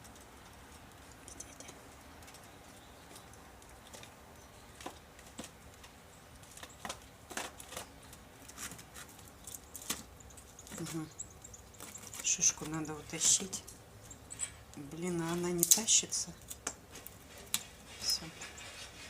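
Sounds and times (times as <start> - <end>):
squirrel scrabbling at pine cone: 0.0 - 19.0.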